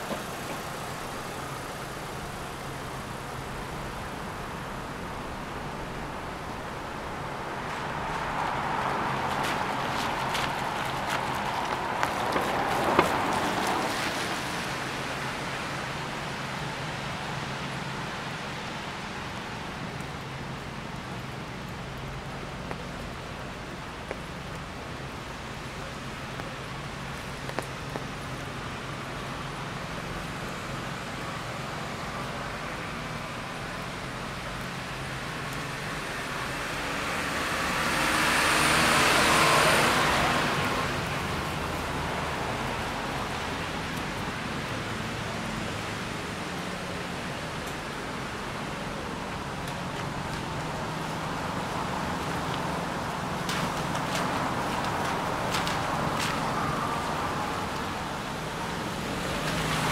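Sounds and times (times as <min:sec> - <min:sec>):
traffic noise: 0:00.0 - 0:59.9
tyres hissing on wet road: 0:00.0 - 0:59.9.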